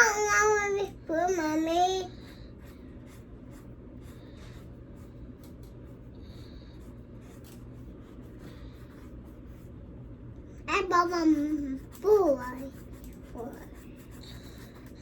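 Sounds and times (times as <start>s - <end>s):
paintbrush strokes: 1.2s - 9.9s, 11.0s - 15.0s.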